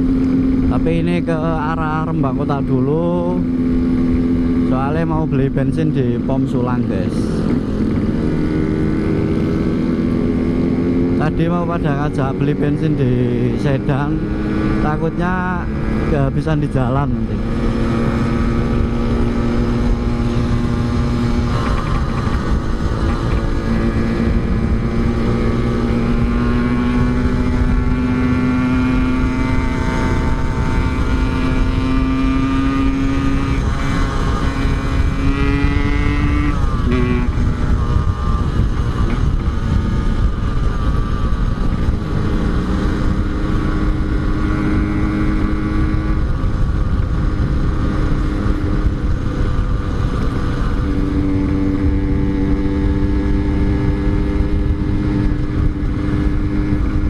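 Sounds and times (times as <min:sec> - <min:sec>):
two-stroke motorcycle engine: 0:00.0 - 0:57.0
wind noise: 0:00.0 - 0:57.0.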